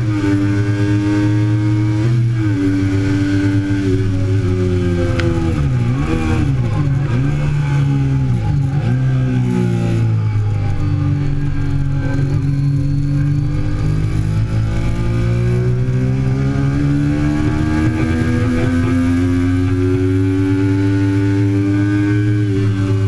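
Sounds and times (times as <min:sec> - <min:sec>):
motorcycle engine running hard: 0:00.0 - 0:23.0.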